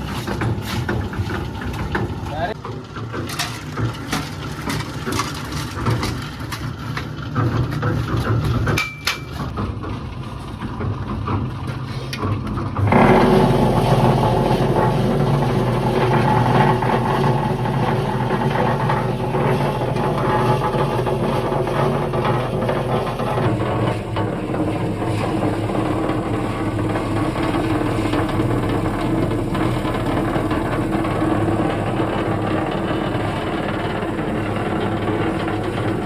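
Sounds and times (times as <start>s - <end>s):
engine running with clatter: 0.0s - 36.0s.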